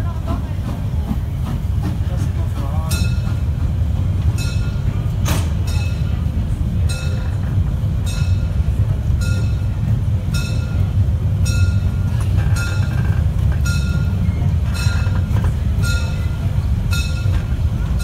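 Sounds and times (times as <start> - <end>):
steam train rumble: 0.0 - 18.0.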